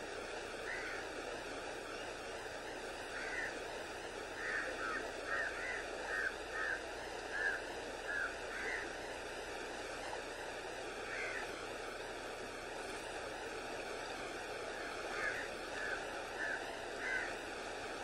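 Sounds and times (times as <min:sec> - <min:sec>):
river rushing: 0:00.2 - 0:18.0.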